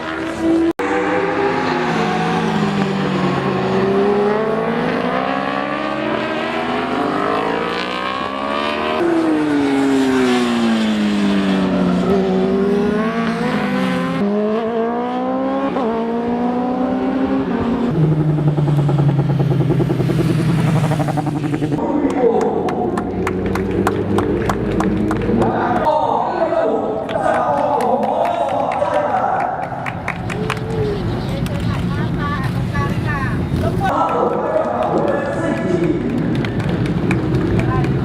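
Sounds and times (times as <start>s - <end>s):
motorcycle engines revving high: 0.0s - 38.0s.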